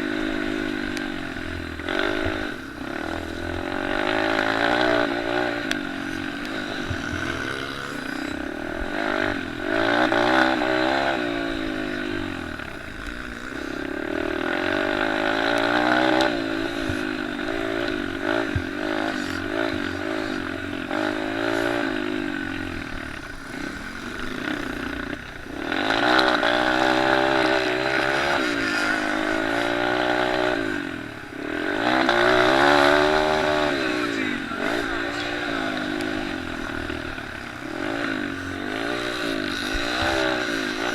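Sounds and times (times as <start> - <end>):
small motorcycle engines revving: 0.0 - 40.9.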